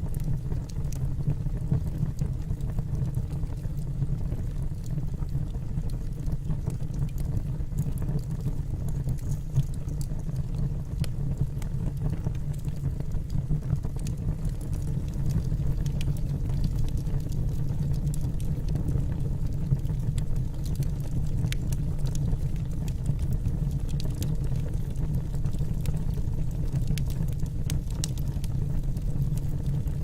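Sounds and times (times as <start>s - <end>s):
fire rumbling in a fireplace: 0.0s - 30.0s
logs crackling and popping: 0.0s - 30.0s.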